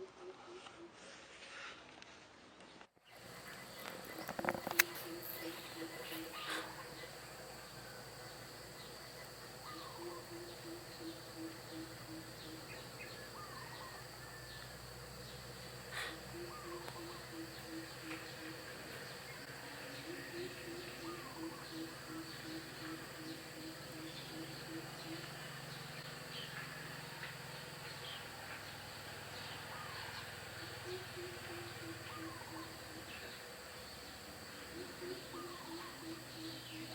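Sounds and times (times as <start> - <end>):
bird hooting: 0.0 - 1.0, 3.2 - 27.2, 29.4 - 36.9
birds chirping: 3.0 - 36.9
high-pitched insect drone: 3.2 - 36.9.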